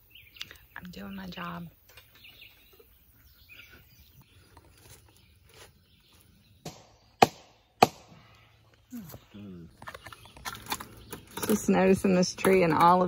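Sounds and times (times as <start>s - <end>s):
faint bird chirps: 0.0s - 11.6s.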